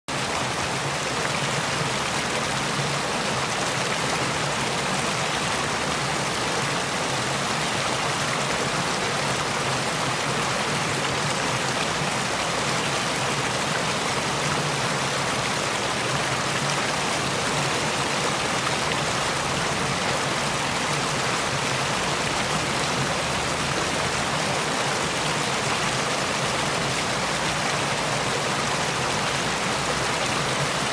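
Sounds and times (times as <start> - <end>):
stream rushing over small fall: 0.1 - 30.9.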